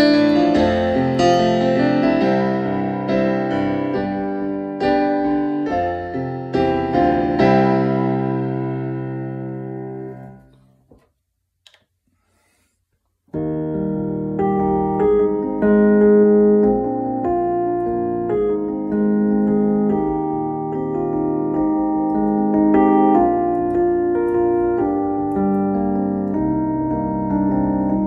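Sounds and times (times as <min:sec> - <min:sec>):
piano chords and notes: 0:00.0 - 0:11.1, 0:13.3 - 0:28.0.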